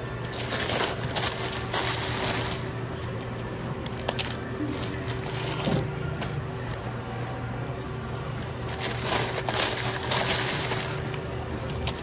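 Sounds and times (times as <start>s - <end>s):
wrapping paper rustling: 0.0s - 3.2s, 3.8s - 5.9s, 6.5s - 12.0s
steady low hum: 0.0s - 12.0s.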